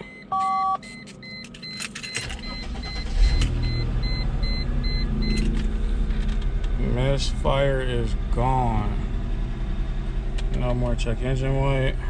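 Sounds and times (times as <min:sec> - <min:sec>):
car engine starting and idling: 0:00.9 - 0:12.0.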